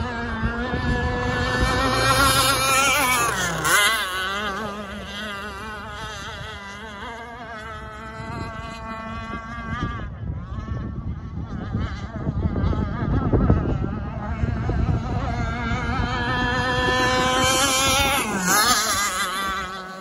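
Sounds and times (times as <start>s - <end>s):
model boat motor high-pitched whine: 0.0s - 20.0s.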